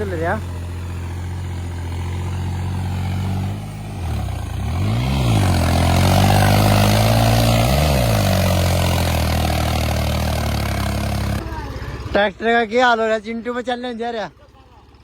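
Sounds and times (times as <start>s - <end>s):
tractor diesel engine labouring: 0.0s - 15.0s.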